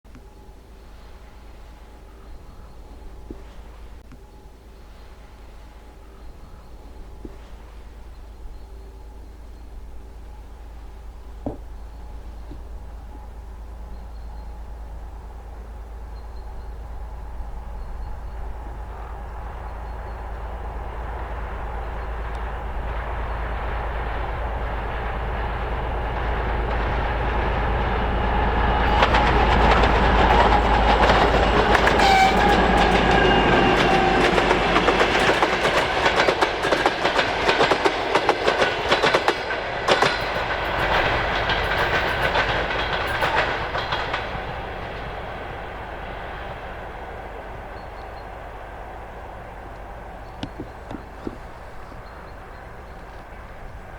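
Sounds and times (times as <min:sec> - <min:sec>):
diesel locomotive engine: 0:00.2 - 0:53.9
train wheels clicking over rail joints: 0:10.2 - 0:53.9.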